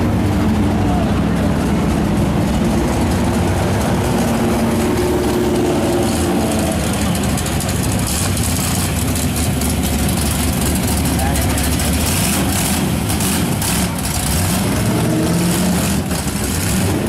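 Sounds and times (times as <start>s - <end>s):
car engines running at low speed: 0.0s - 17.0s.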